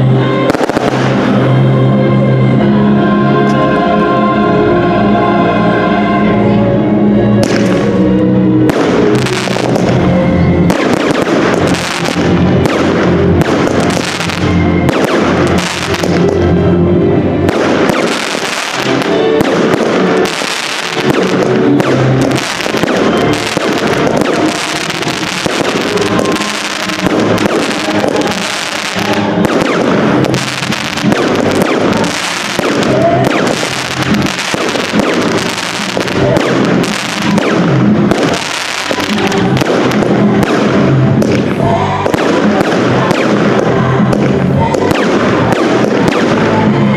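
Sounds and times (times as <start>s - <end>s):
fireworks bangs and crackles: 0.0s - 1.6s, 7.4s - 16.7s, 17.4s - 46.9s
music playing: 0.0s - 46.9s.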